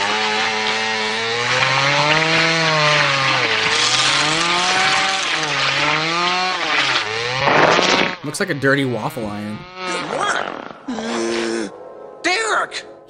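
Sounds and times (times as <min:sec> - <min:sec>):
chainsaw engine revving: 0:00.0 - 0:10.9.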